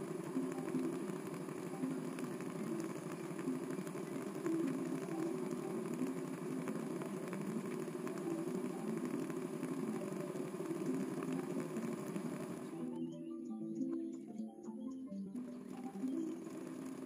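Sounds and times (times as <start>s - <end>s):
stand mixer motor running: 0.0s - 12.9s, 15.4s - 17.0s.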